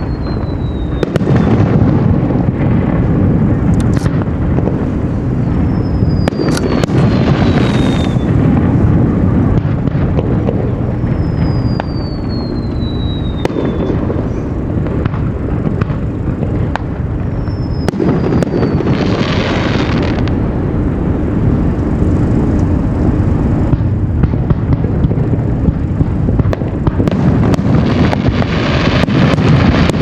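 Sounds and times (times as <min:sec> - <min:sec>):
whistling firework shells: 0:00.0 - 0:02.6, 0:03.7 - 0:08.7, 0:09.5 - 0:20.4, 0:23.7 - 0:30.0
low rumble: 0:00.0 - 0:30.0.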